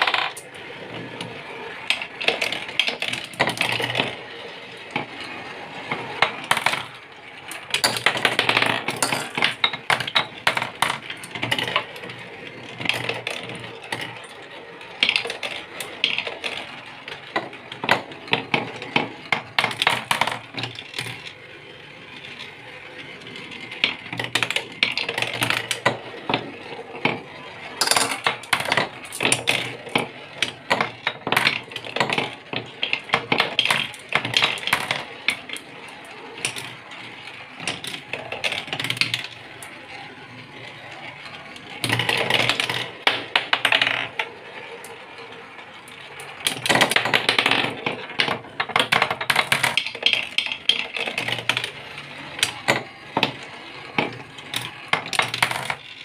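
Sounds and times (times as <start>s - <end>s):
marbles rattling on wooden tracks: 0.0s - 56.0s.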